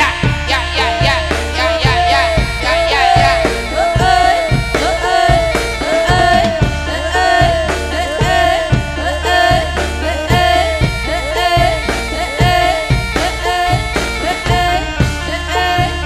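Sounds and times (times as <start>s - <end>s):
dance music with drum beat: 0.0s - 16.0s
deep bass: 0.0s - 16.0s.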